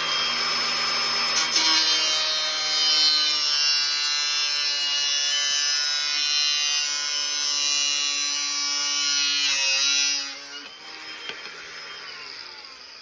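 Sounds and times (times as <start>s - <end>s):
angle grinder cutting plastic pipe: 0.0s - 13.0s.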